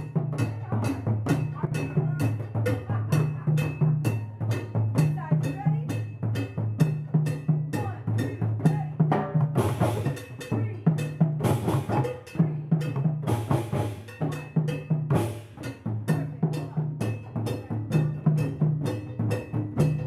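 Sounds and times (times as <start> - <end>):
djembe drums playing: 0.0 - 20.0.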